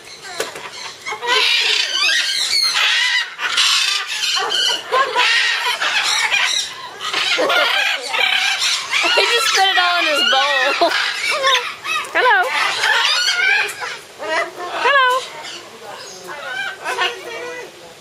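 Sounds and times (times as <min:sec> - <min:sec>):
parrots squawking and screeching: 0:00.0 - 0:17.7.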